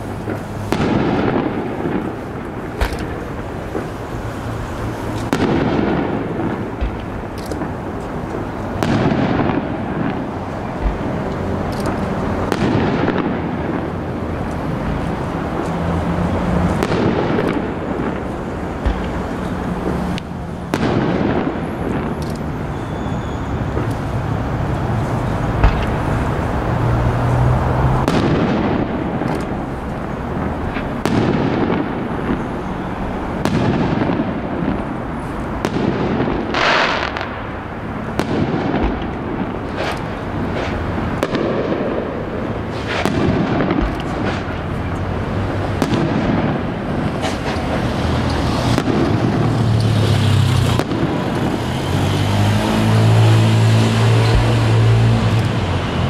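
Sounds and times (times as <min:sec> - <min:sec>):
fireworks booming and banging: 0:00.0 - 0:56.0.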